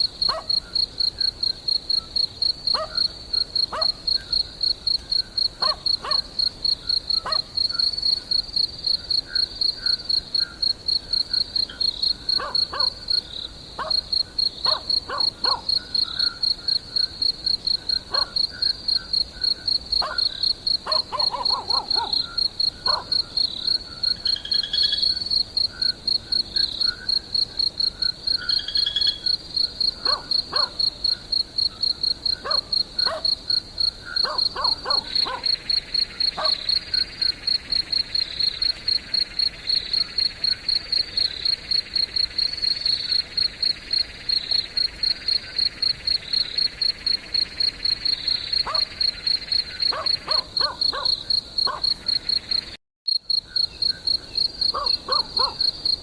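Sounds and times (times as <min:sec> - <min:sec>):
crickets chirping: 0:00.0 - 0:56.0
steady insect trill: 0:00.0 - 0:56.0.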